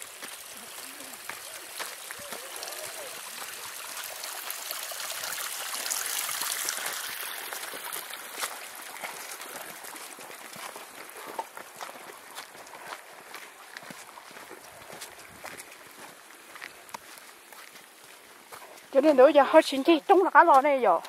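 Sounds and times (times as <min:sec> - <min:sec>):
stream trickling over rocks: 0:00.0 - 0:21.0.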